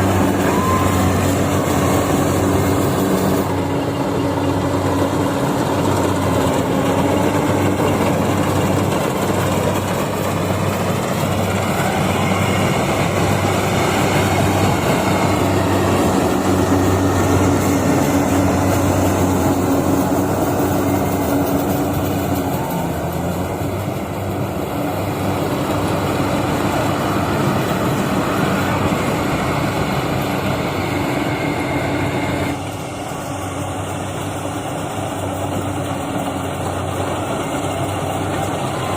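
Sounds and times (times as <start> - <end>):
diesel engine hum: 0.0 - 38.9
machinery clatter: 0.0 - 38.9.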